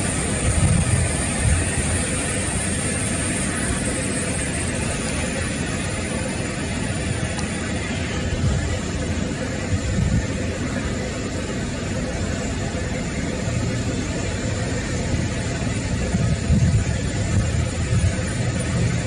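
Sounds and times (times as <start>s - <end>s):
jet engines low rumble: 0.0s - 19.0s.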